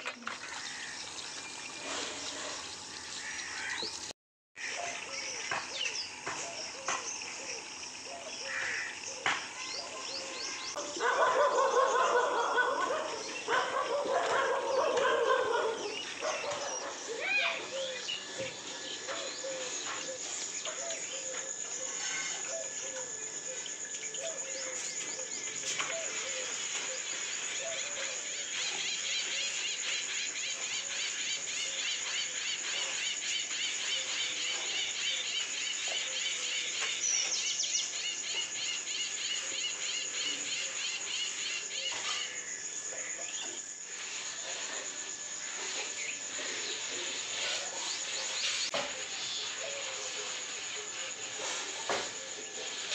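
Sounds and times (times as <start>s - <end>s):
insects buzzing: 0.0s - 52.9s
insect pulsing trill: 4.6s - 52.9s.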